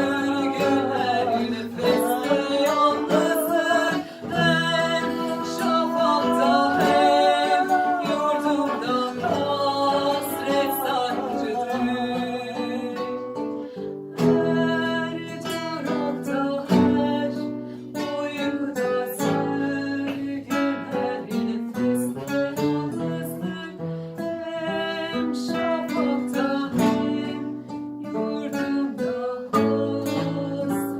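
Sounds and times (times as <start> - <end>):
acoustic guitars strumming: 0.0 - 30.9
person singing: 0.0 - 30.9.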